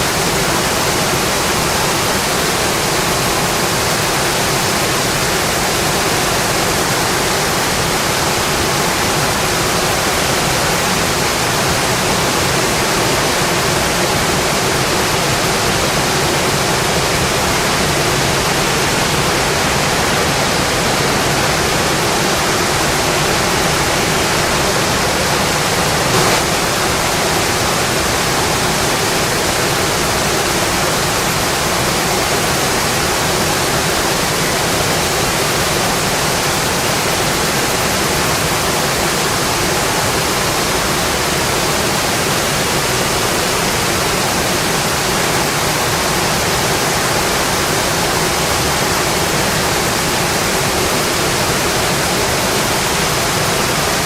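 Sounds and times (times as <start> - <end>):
heavy rainfall: 0.0 - 54.0.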